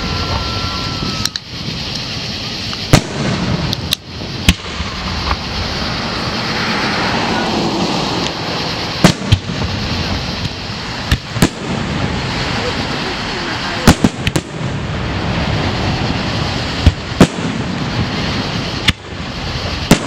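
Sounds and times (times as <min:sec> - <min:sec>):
firework shells bursting: 0:00.0 - 0:20.0
steady background noise: 0:00.0 - 0:20.0.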